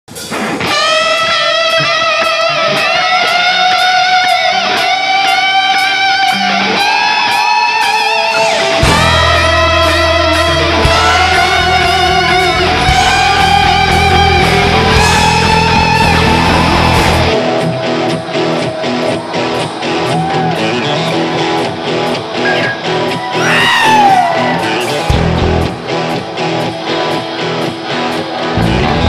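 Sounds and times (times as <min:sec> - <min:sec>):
bass guitar: 0:00.1 - 0:29.0
electric guitar lead melody: 0:00.6 - 0:29.0.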